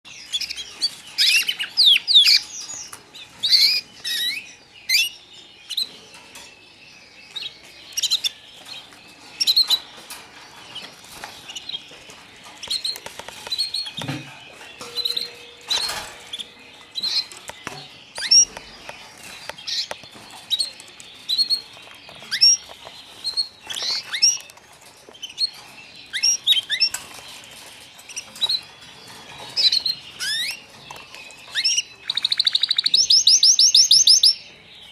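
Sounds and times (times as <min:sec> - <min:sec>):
canaries chirping: 0:00.0 - 0:34.9.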